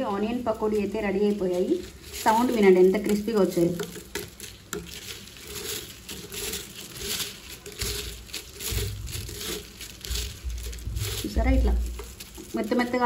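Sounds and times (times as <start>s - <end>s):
fried snacks crackling and rustling: 0.0s - 13.0s.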